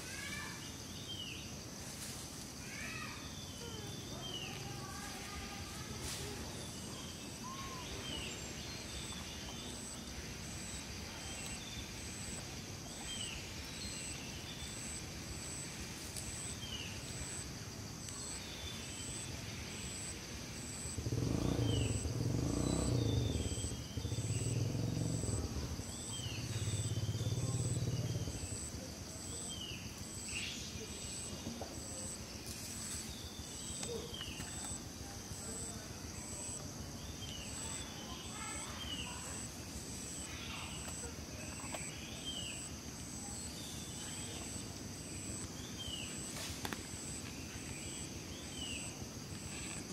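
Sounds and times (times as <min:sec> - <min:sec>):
high insect drone: 0:00.0 - 0:49.9.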